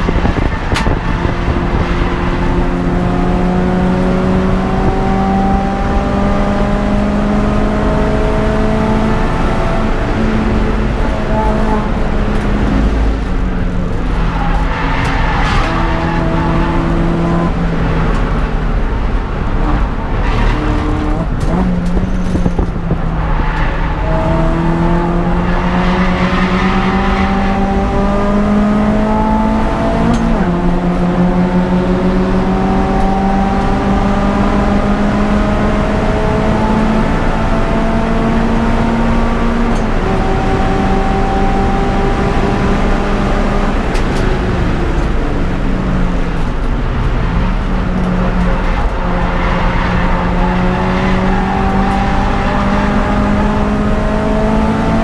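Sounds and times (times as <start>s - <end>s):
car engine revving hard: 0.0s - 13.3s, 19.6s - 55.0s
tyre and road noise: 0.0s - 55.0s.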